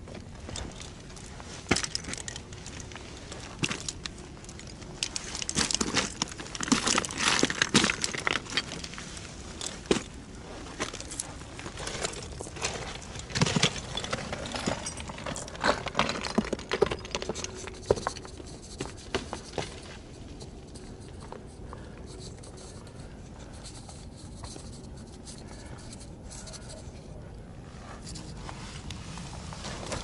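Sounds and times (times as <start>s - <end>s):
climbing gear clinking: 0.0s - 27.2s.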